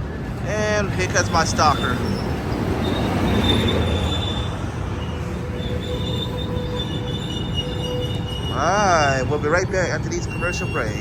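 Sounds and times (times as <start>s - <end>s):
high wheel squeals: 0.0s - 11.0s
train rumbling on rails: 0.0s - 11.0s.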